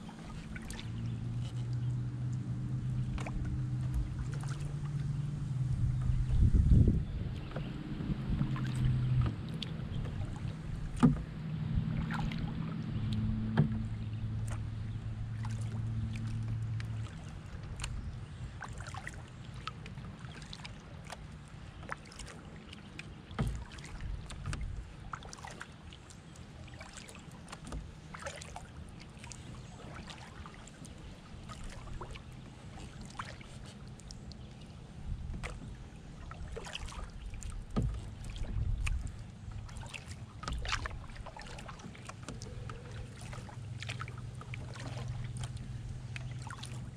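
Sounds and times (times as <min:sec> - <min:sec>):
low steady hum: 0:00.0 - 0:46.9
water splashing off paddle: 0:00.0 - 0:46.9.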